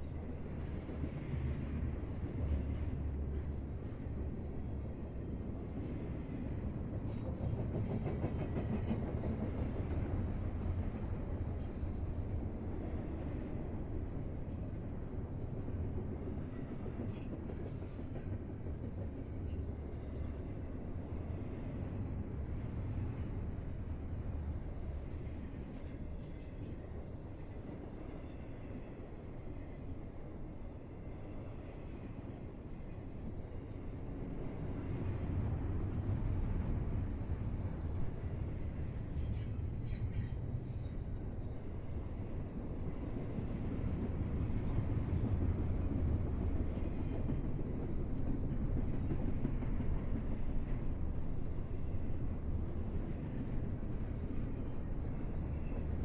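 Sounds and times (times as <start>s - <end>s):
railroad cars rumbling on track: 0.0s - 56.0s.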